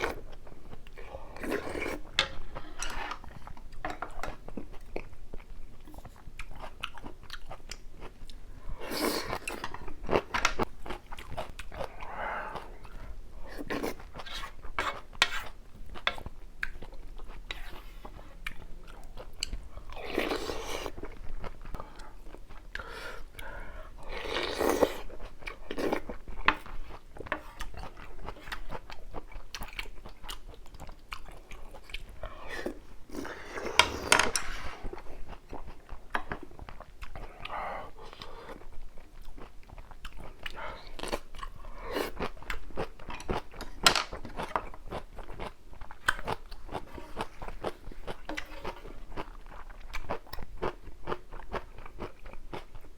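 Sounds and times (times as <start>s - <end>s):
person chewing and crunching food: 0.0s - 52.9s.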